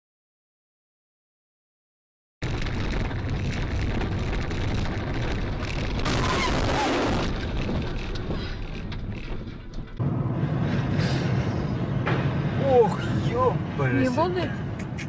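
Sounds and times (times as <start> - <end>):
car road and engine rumble: 2.4 - 15.0.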